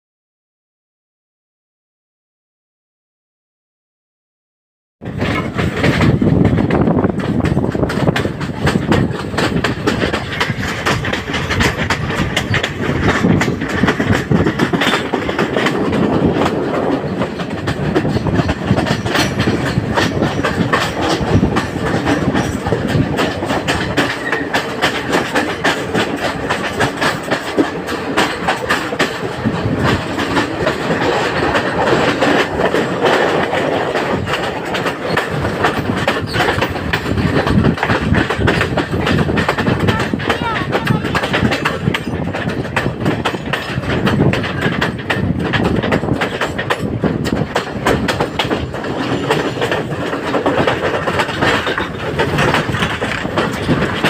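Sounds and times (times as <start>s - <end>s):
train wheels clattering over rails: 5.0s - 54.0s.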